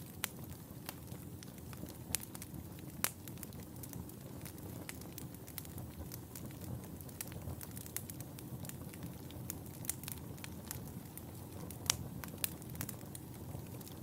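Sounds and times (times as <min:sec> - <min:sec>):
low rumble of flames: 0:00.0 - 0:14.0
wood fire popping and snapping: 0:00.0 - 0:14.0.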